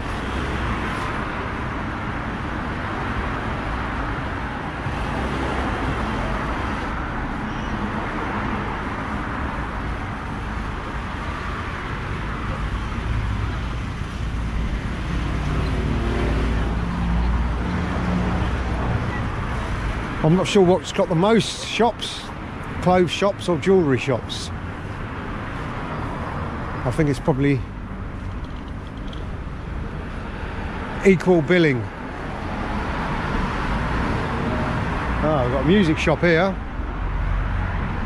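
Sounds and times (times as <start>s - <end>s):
heavy vehicle engine hum: 0.0s - 38.0s
road traffic: 0.0s - 38.0s.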